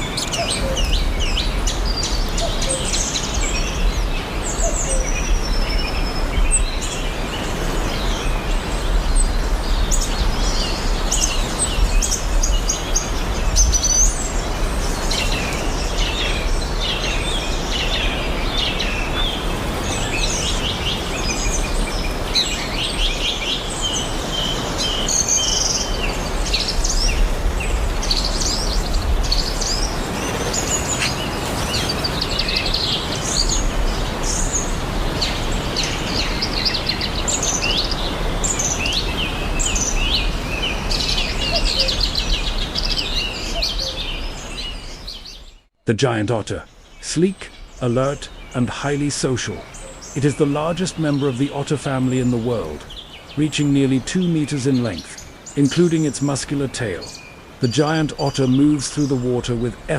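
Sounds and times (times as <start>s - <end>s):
many birds calling: 0.0s - 59.9s
steady background hiss: 0.0s - 59.9s.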